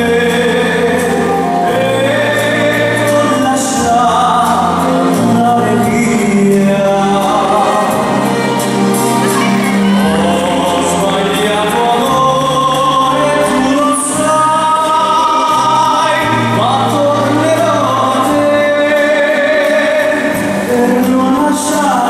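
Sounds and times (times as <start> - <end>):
ballroom dance music: 0.0 - 22.0
person singing: 0.0 - 22.0.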